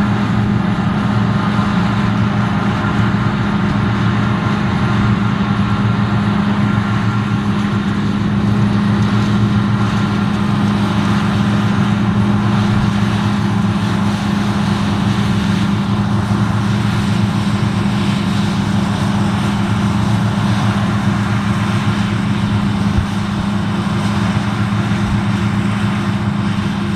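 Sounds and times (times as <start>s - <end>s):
combine harvester running: 0.0s - 26.9s.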